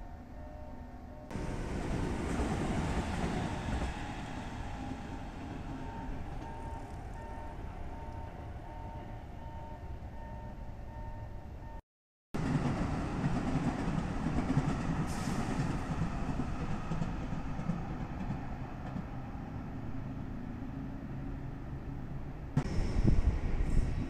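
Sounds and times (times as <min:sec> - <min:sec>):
electric train rumbling past: 0:00.0 - 0:11.8, 0:12.4 - 0:24.0.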